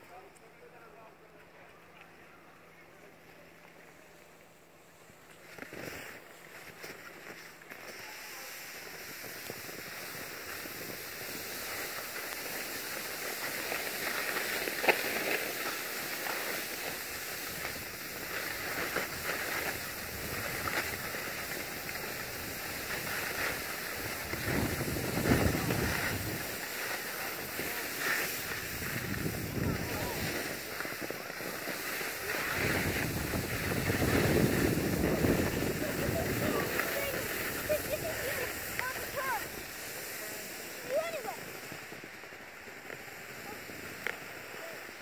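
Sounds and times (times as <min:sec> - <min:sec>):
skis scraping over packed snow: 0:00.1 - 0:45.0.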